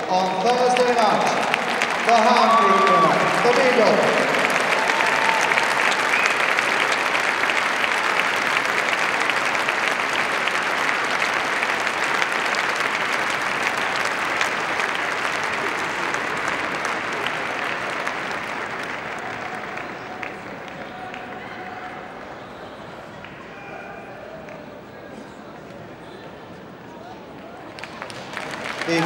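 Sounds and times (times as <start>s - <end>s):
crowd applauding: 0.0s - 25.4s, 27.2s - 29.0s.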